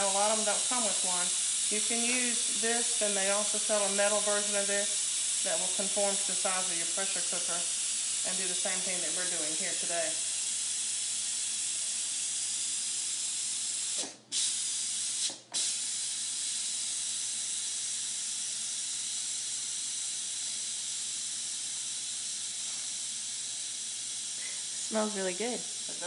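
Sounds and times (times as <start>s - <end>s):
steam hissing from pressure cooker: 0.0s - 26.0s.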